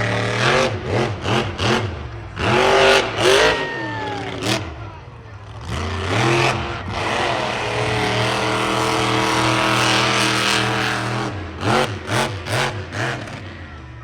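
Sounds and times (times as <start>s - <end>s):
racing engine revving: 0.0s - 13.6s.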